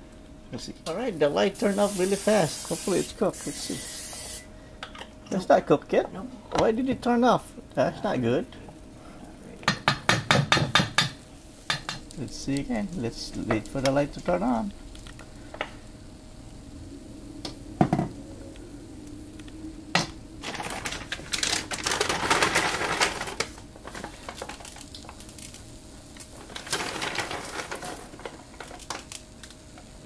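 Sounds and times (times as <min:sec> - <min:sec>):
batter sizzling in waffle maker: 0:00.9 - 0:04.5, 0:06.6 - 0:30.0.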